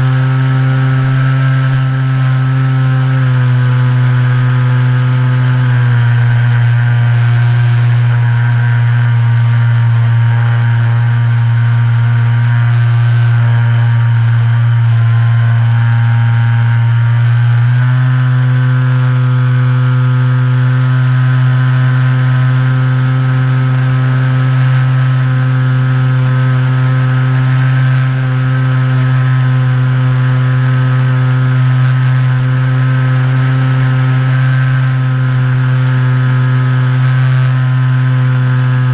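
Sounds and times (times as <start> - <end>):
model plane motor droning: 0.0 - 38.9.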